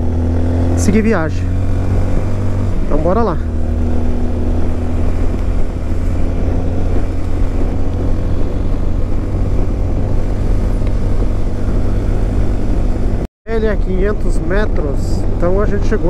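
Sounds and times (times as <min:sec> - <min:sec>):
motorcycle engine humming: 0:00.0 - 0:16.0
wind noise on microphone: 0:01.5 - 0:16.0.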